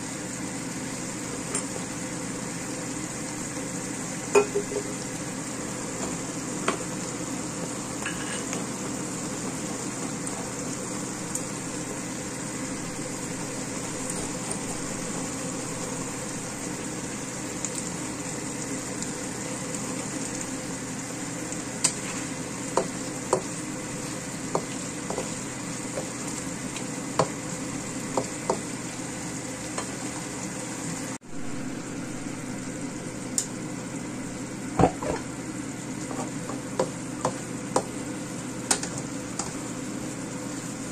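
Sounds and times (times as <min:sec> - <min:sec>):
fish sizzling in a wok: 0:00.0 - 0:40.9.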